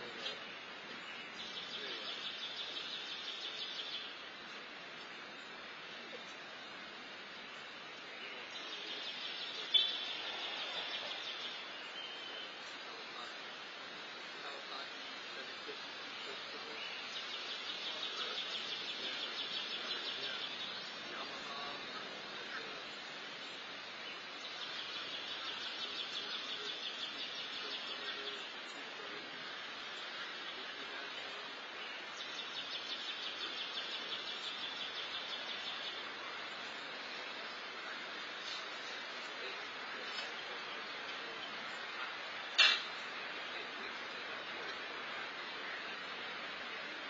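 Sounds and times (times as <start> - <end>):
high hiss: 0.0 - 47.0
outdoor background noise: 0.0 - 47.0.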